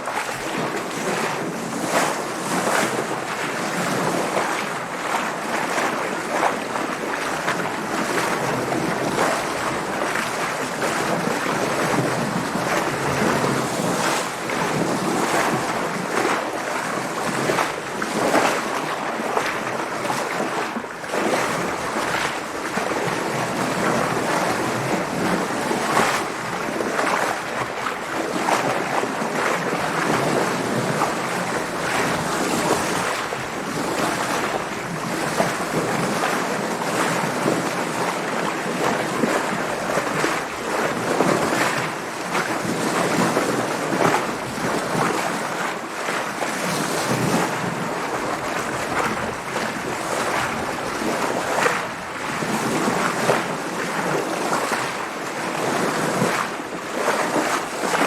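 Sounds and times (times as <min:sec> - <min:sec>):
water splashing against boat: 0:00.0 - 0:58.0.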